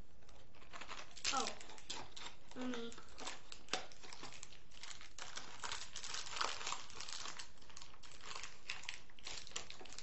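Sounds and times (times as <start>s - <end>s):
toy packaging crinkling: 0.3s - 10.0s.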